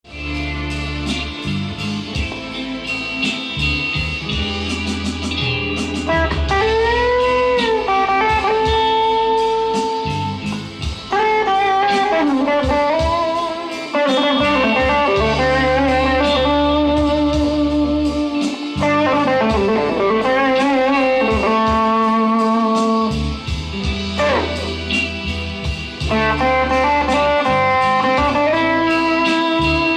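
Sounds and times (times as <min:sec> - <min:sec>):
low bass notes: 0:00.0 - 0:13.7, 0:14.3 - 0:29.9
bluesy electric guitar lead: 0:00.0 - 0:29.9.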